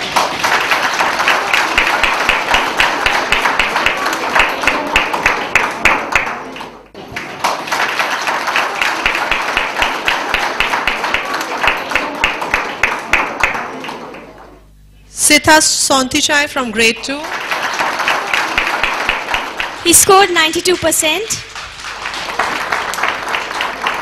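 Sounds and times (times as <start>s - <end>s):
audience applauding: 0.0s - 14.6s, 17.0s - 24.0s.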